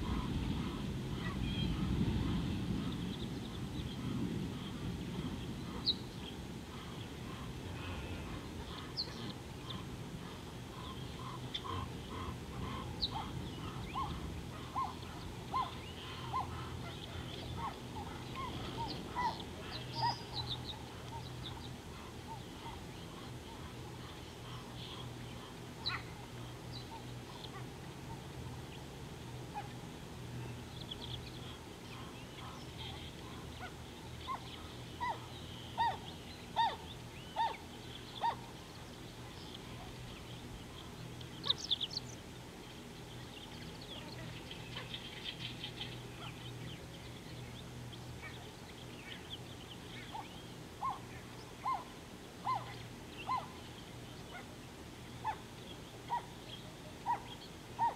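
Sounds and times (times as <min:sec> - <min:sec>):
steady low hum: 0:00.0 - 0:57.9
wild birds calling: 0:00.0 - 0:57.9.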